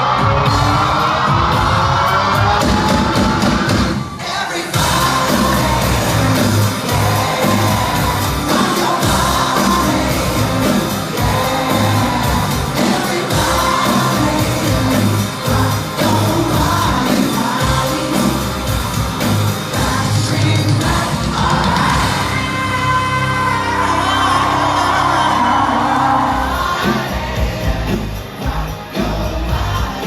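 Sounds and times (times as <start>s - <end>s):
people yelling: 0.0s - 18.4s, 20.1s - 27.5s
live pop-rock band: 0.0s - 30.0s
lead singer singing: 2.4s - 30.0s.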